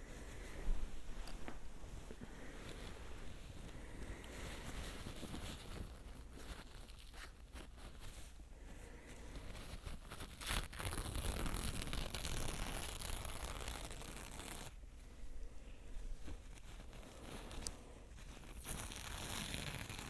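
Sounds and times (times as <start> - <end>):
scratching and rubbing noises: 0.0 - 20.0.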